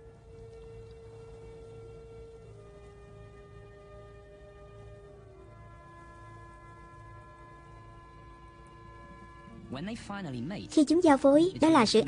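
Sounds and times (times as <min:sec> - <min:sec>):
soft held-tone music: 0:00.0 - 0:12.0.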